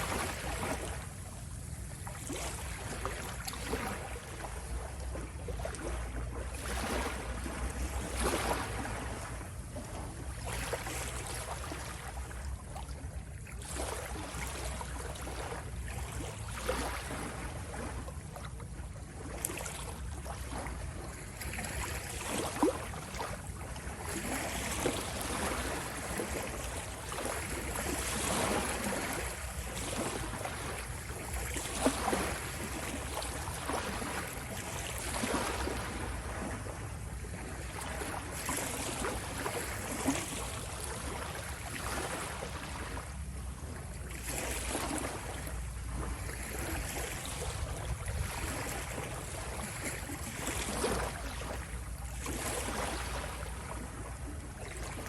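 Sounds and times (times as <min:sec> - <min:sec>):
sea waves washing and splashing: 0:00.0 - 0:18.1, 0:19.0 - 0:55.0.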